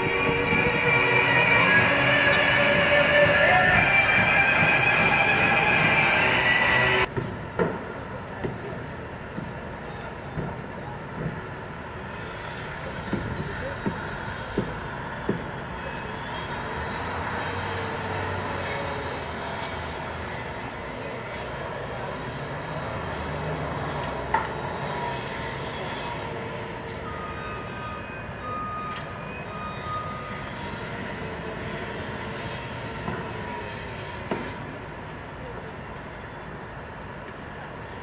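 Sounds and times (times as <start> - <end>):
traffic hum: 0.0 - 38.0.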